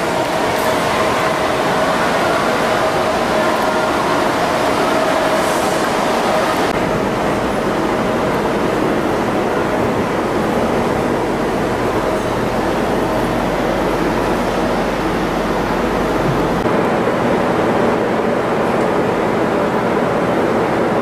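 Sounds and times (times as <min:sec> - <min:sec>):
moving train rumble: 0:00.0 - 0:21.0.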